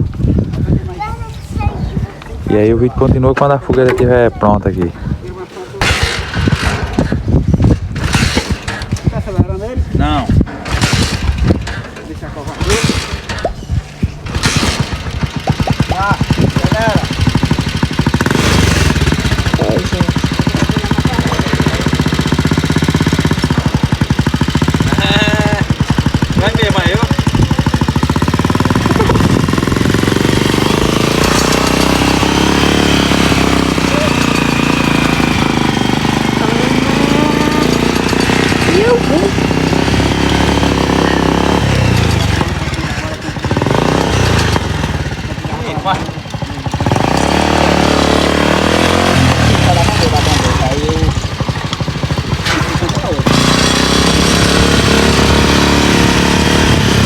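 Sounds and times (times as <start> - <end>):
motorcycle engine knocking: 5.9 - 9.6, 10.4 - 12.0, 12.6 - 57.0.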